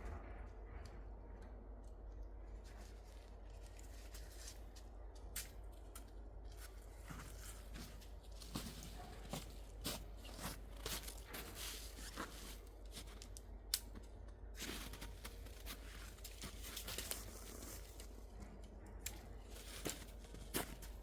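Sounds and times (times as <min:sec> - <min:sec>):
rustling and crinkling by hand: 0:01.6 - 0:21.0.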